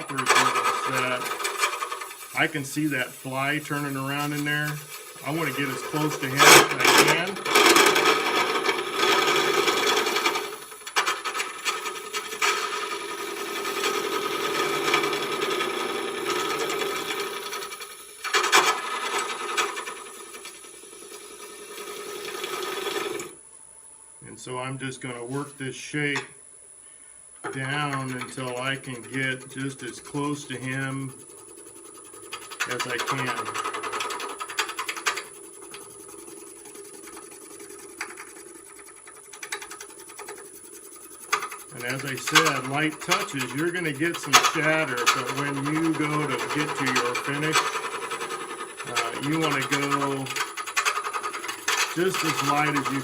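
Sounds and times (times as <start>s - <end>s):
lathe tool scraping wood: 0.0s - 23.4s, 27.4s - 53.0s.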